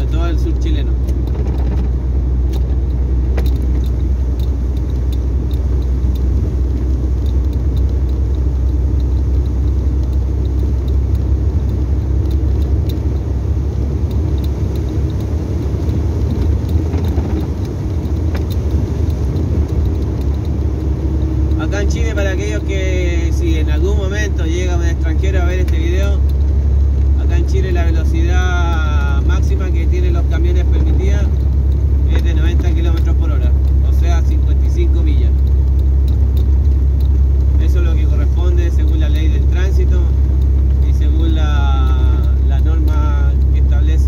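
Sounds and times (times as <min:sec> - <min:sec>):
faint clicks and rattles: 0:00.0 - 0:44.0
truck engine drone: 0:00.0 - 0:44.0
tyres on wet road: 0:00.0 - 0:44.0.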